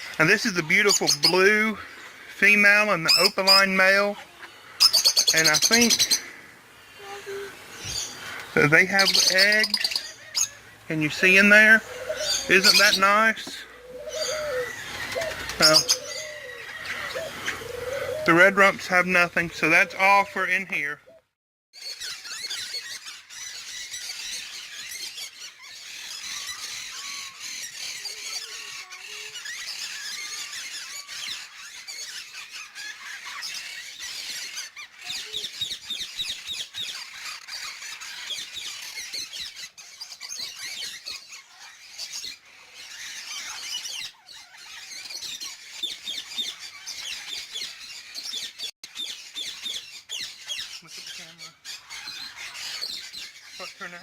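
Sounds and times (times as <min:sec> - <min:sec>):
caged birds chattering: 0:00.0 - 0:54.0.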